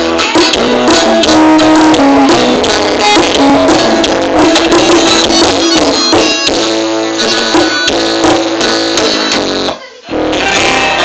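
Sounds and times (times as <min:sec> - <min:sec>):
guitar and drums music on car stereo: 0:00.0 - 0:11.0.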